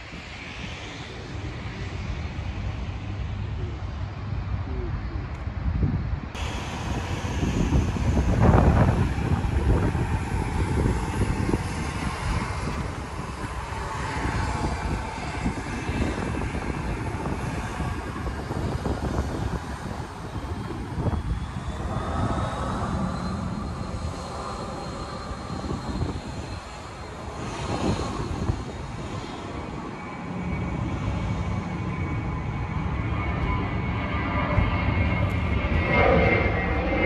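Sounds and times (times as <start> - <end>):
airliner engine rumble: 0.0 - 37.0
faint high whine: 6.4 - 37.0.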